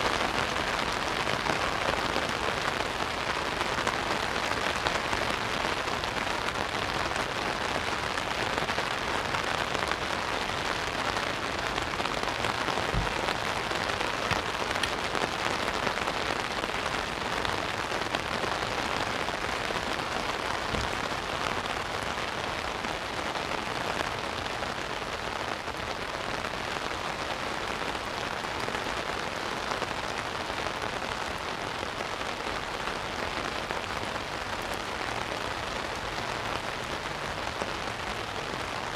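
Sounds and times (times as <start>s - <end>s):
rain on umbrella and sea: 0.0s - 38.9s.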